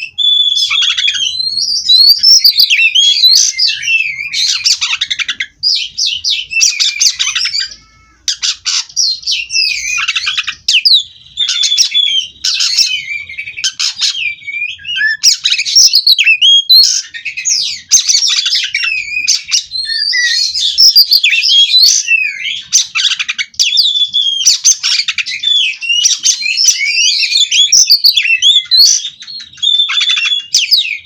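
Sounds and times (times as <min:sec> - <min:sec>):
bird singing whistles and trills: 0:00.0 - 0:31.0.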